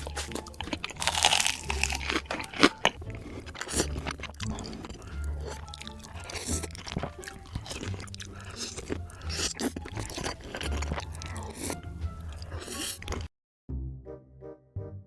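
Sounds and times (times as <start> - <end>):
background music with bass: 0.0 - 12.7, 13.7 - 15.0
crunchy food chewing: 0.0 - 13.3.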